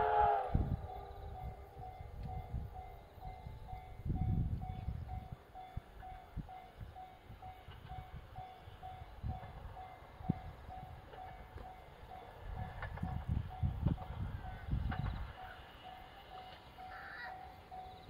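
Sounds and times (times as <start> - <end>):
level crossing warning bell: 0.9 - 18.0.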